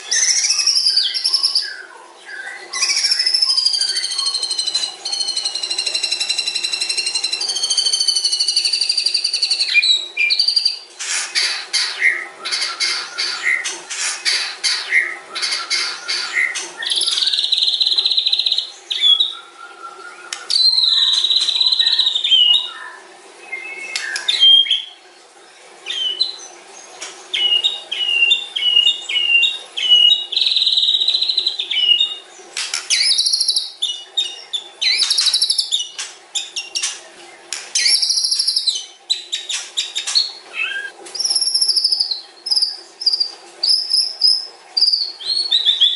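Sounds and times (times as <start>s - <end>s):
songbird singing: 0.0s - 13.7s, 14.3s - 25.1s, 25.8s - 45.9s.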